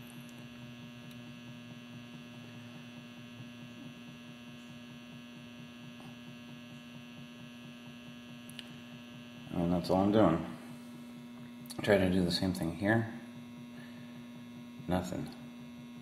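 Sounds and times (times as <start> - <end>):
electrical hum of charger: 0.0 - 16.0.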